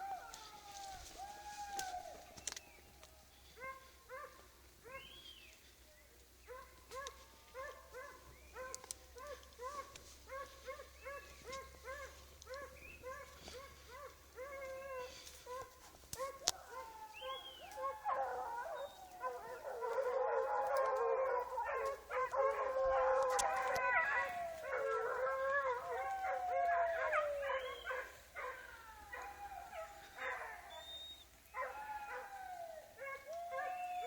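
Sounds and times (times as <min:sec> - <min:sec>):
dogs howling and baying: 0:00.0 - 0:05.1, 0:06.5 - 0:34.0.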